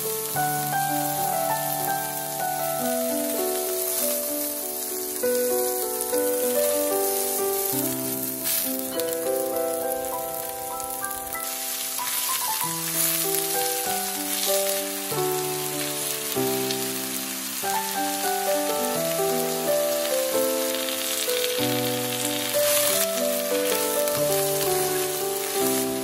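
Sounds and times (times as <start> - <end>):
instrumental background music: 0.0 - 26.0
vegetables sizzling in a pan: 0.0 - 26.0.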